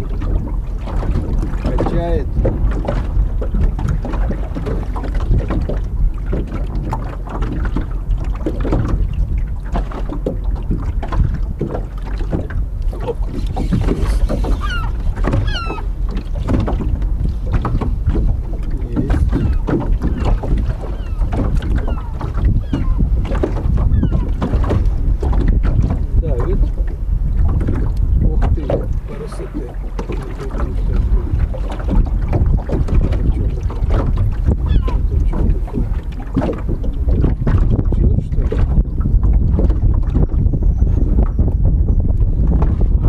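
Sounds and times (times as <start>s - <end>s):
water lapping against boat hull: 0.0s - 43.0s
wind buffeting microphone: 0.0s - 43.0s.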